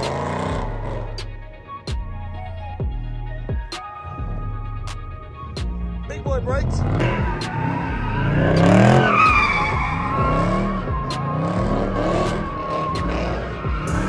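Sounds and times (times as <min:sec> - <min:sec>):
car engine revving: 0:00.0 - 0:01.8, 0:04.1 - 0:14.0
tyres skidding and squealing: 0:00.0 - 0:14.0.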